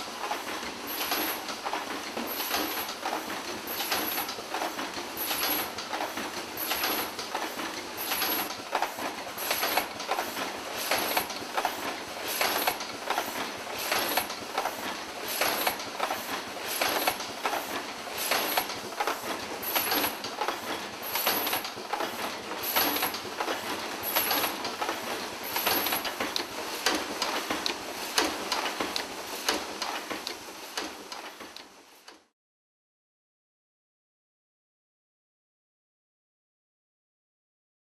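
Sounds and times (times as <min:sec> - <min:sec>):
machine clattering clicks and knocks: 0:00.0 - 0:32.3.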